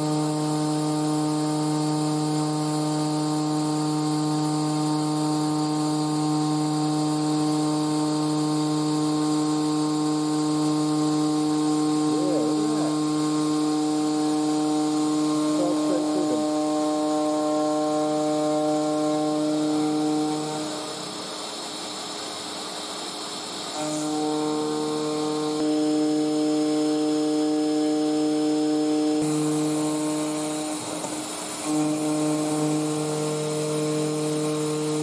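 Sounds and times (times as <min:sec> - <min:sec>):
hiss: 0:00.0 - 0:35.0
router cutting whine: 0:00.0 - 0:35.0.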